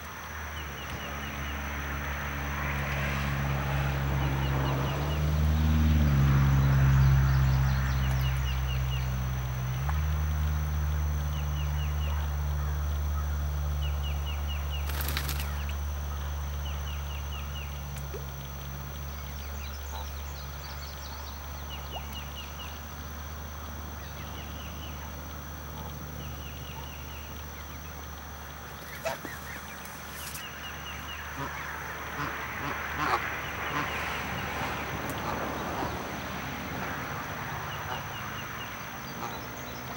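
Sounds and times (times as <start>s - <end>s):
high insect tone: 0.1s - 39.9s.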